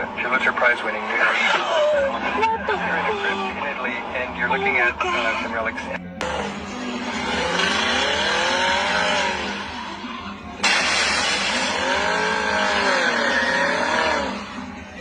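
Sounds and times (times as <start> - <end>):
car engine: 0.0 - 15.0
car tyres squealing: 0.0 - 15.0.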